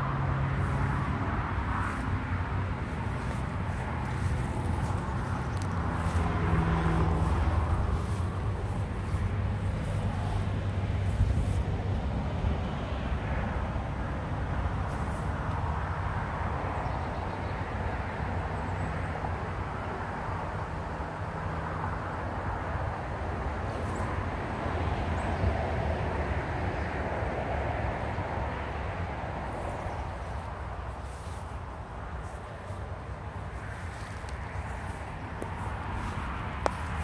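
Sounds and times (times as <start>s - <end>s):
vehicle rumble with low hum: 0.0s - 37.0s.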